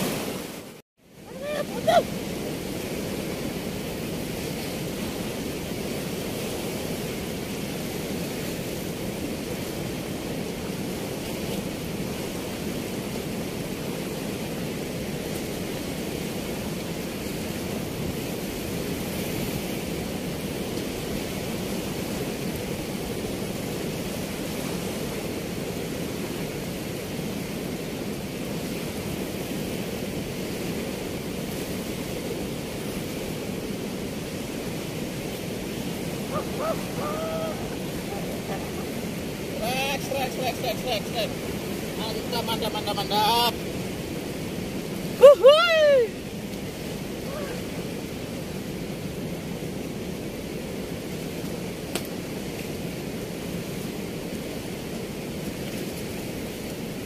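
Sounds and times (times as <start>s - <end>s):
river water rushing through weir: 0.0s - 57.0s.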